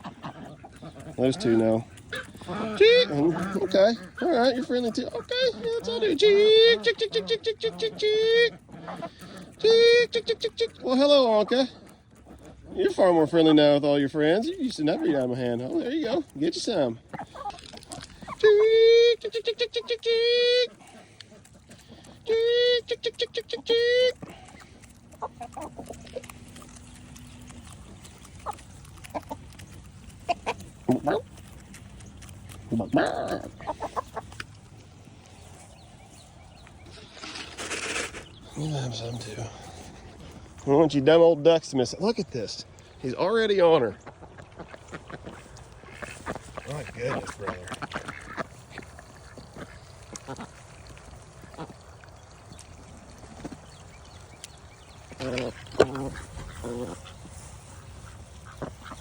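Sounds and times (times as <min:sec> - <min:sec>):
chickens clucking: 0:00.0 - 0:59.0
ducks quacking: 0:00.0 - 0:59.0.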